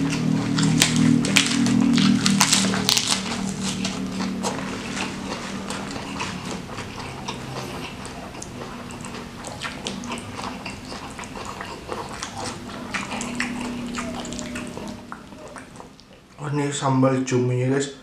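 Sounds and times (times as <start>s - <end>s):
chewing and biting food: 0.0s - 16.4s.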